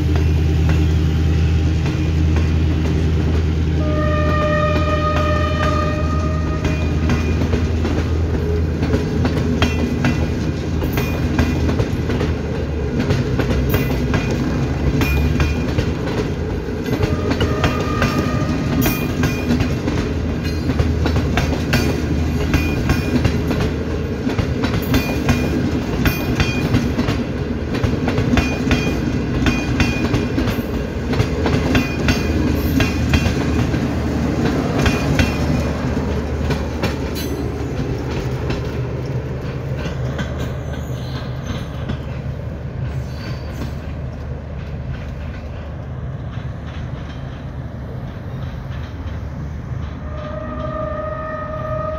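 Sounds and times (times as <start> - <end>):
train coaches rumbling past: 0.0 - 51.9
wheels clattering over rail joints: 4.4 - 50.8.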